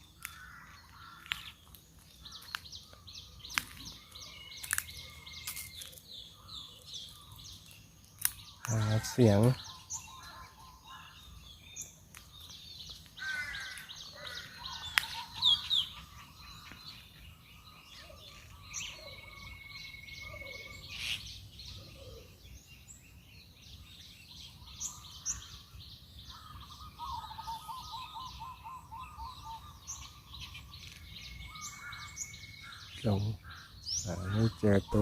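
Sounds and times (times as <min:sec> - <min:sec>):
birds chirping and trilling: 0:00.0 - 0:35.0.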